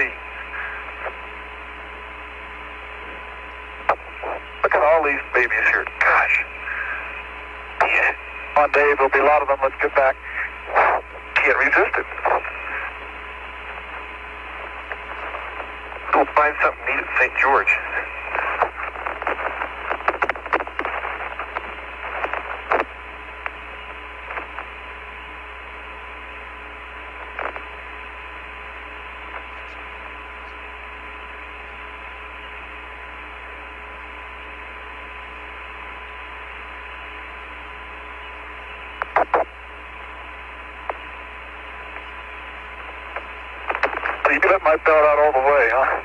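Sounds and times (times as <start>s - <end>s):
faint constant tone: 0.0s - 46.0s
radio hiss: 0.0s - 46.0s
sharp radio crackles: 0.0s - 46.0s.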